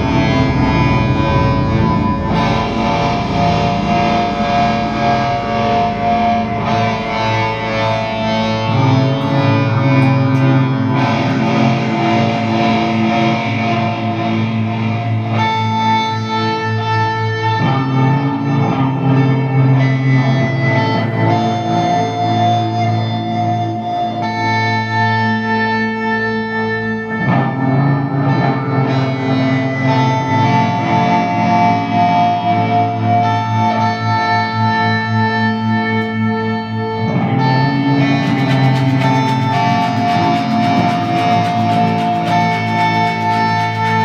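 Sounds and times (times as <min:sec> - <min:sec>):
low bass: 0:00.0 - 0:25.8, 0:26.5 - 0:44.0
distorted electric guitar droning: 0:00.0 - 0:44.0.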